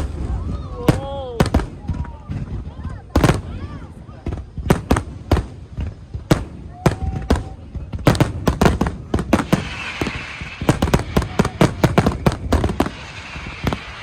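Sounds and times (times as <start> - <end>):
fireworks bangs: 0.0 - 14.0
fireworks hiss: 0.0 - 14.0.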